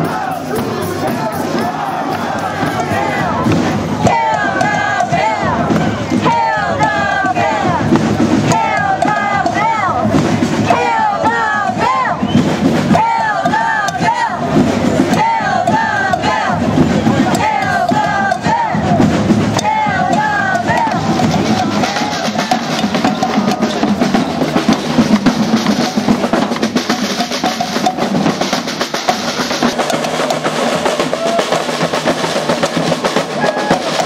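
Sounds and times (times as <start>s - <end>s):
crowd chanting: 0.0s - 34.0s
snare and bass drums marching beat: 0.0s - 34.0s.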